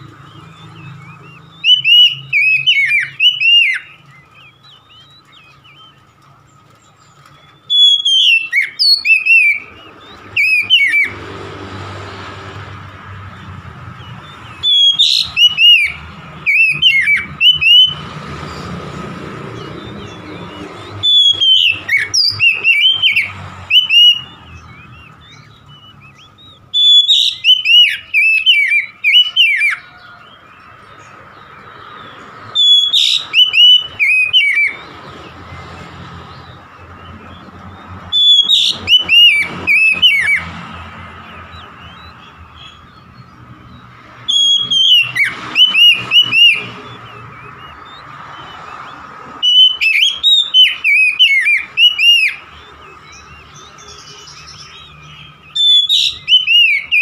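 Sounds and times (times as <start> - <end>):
bird singing whistled notes: 0.0 - 11.3, 12.4 - 57.0.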